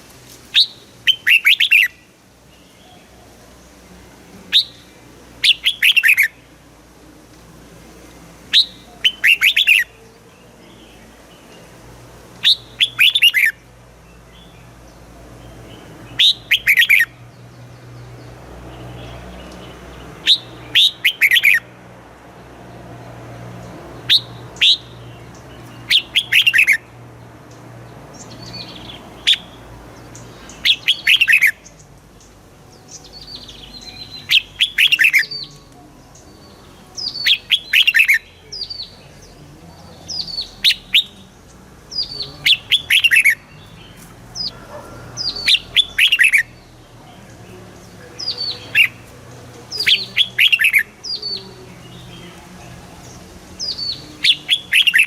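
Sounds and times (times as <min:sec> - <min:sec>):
bird singing whistled notes: 0:00.5 - 0:03.1, 0:04.5 - 0:06.5, 0:08.5 - 0:11.7, 0:12.4 - 0:13.6, 0:15.5 - 0:18.0, 0:18.8 - 0:21.7, 0:24.1 - 0:26.9, 0:28.1 - 0:55.0.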